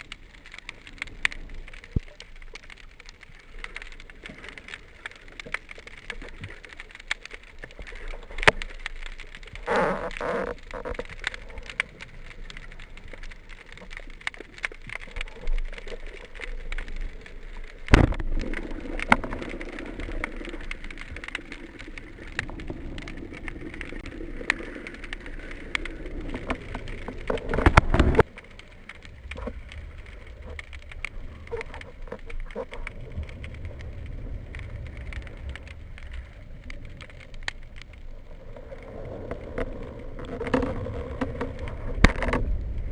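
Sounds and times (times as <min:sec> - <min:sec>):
underwater crackle of clicks: 0:00.0 - 0:42.9.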